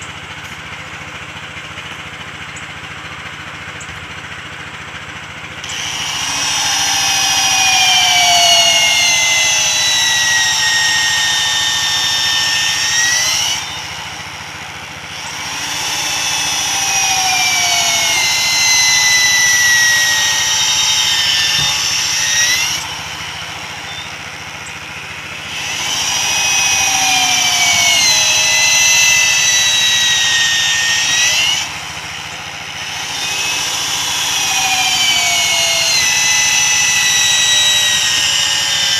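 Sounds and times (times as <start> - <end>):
power tool whining into wood: 0.0 - 38.9.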